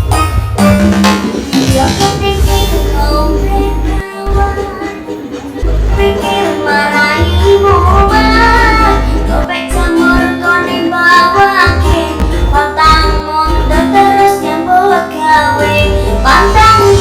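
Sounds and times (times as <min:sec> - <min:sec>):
pulsing heavy bass: 0:00.0 - 0:04.7, 0:05.6 - 0:14.4, 0:15.6 - 0:17.0
sung melody: 0:00.0 - 0:17.0.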